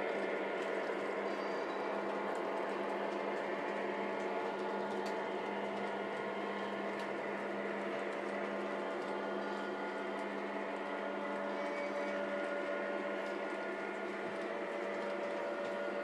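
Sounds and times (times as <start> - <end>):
model train mechanical hum: 0.0 - 16.0.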